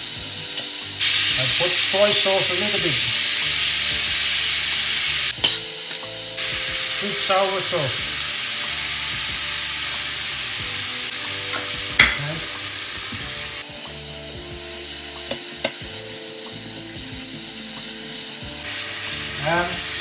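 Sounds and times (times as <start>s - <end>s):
meat and vegetables sizzling in a pan: 0.0s - 20.0s.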